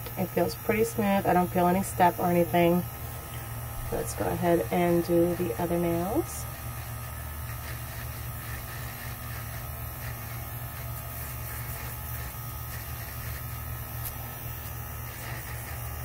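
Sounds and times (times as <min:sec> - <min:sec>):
electric nail file humming: 0:00.0 - 0:16.0.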